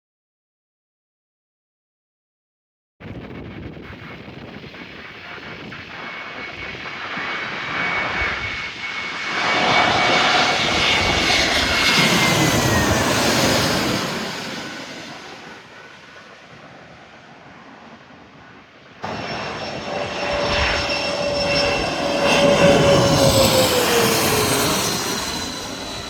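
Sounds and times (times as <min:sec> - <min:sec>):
jet airliner flying past: 0:03.0 - 0:26.0.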